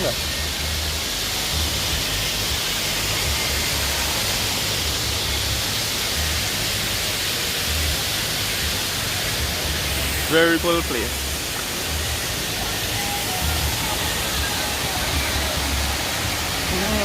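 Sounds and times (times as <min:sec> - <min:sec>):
rushing water roar: 0:00.0 - 0:17.0.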